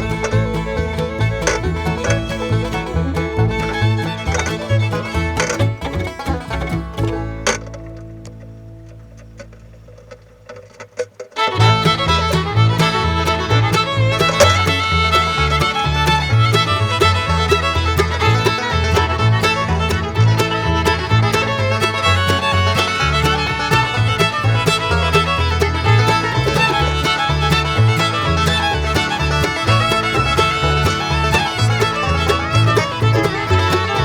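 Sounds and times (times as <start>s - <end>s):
upbeat fiddle tune with bass: 0.0s - 9.8s, 11.2s - 34.0s.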